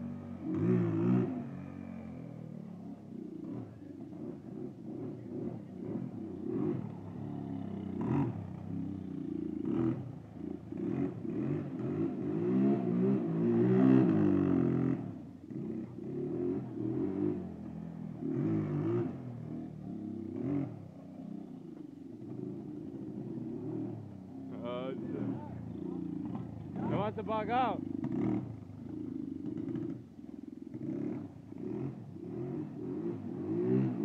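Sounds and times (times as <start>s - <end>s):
quad bike engine revving: 0.0s - 34.0s.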